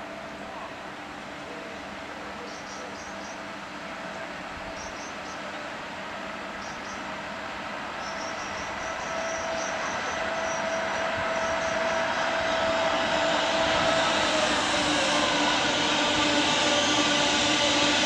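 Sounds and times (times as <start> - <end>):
steady locomotive whine: 0.0 - 18.0
train wheel and running noise: 0.0 - 18.0.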